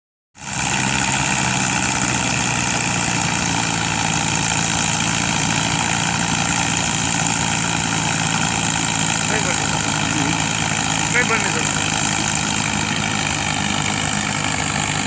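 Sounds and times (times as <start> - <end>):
tractor diesel engine running: 0.4 - 15.0.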